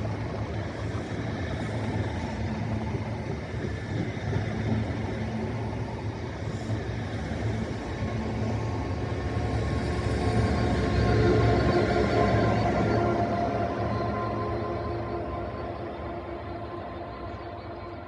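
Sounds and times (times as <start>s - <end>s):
train running: 0.0s - 18.0s.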